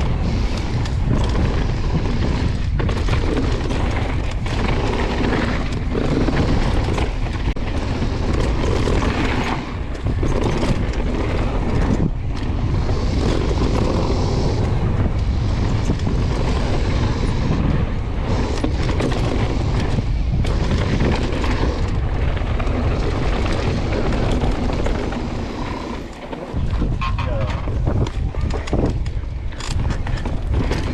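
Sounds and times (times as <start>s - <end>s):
bike knocks and rattles: 0.0s - 30.9s
tyres rumbling on dirt: 0.0s - 30.9s
wind rushing over microphone: 0.0s - 30.9s.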